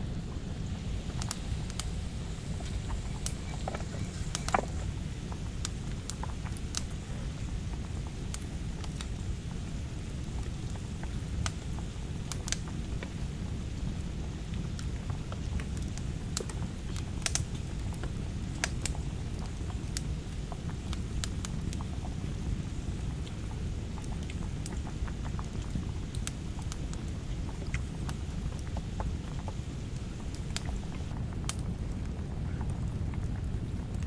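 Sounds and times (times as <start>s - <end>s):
rain pattering on plastic sheeting: 0.0s - 34.0s.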